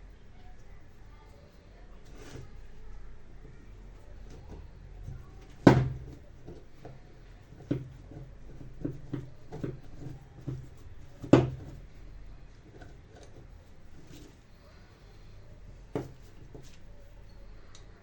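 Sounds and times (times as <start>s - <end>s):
light taps and clatters: 3.4s - 17.9s.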